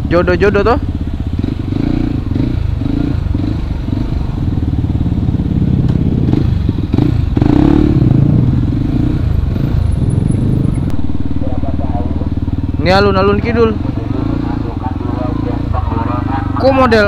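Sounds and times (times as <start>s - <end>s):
motorbike engine running: 0.0s - 17.0s.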